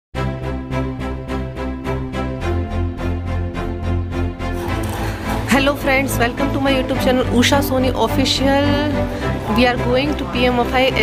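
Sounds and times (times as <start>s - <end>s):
background music with steady beat: 0.2s - 11.0s.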